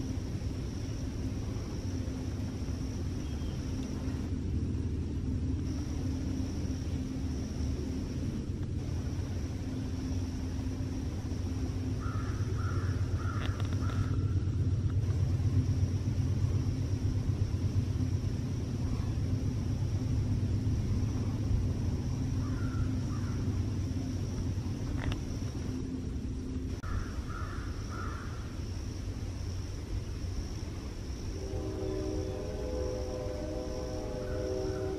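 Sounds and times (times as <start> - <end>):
low rumble with hum: 0.0 - 34.9.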